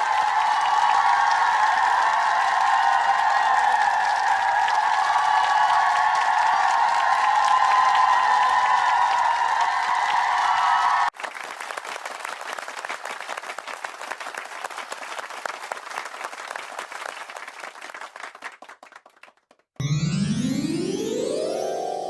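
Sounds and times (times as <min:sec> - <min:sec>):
crowd applause: 0:00.0 - 0:22.0.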